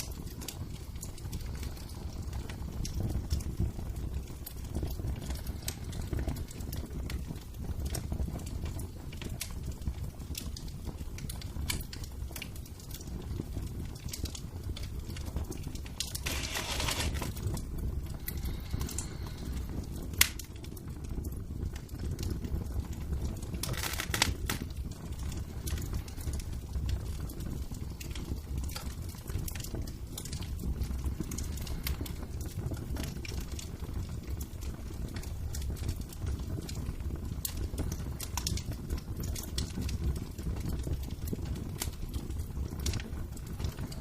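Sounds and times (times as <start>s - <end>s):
fire popping: 0.0s - 44.0s
wood fire crackling: 0.0s - 44.0s.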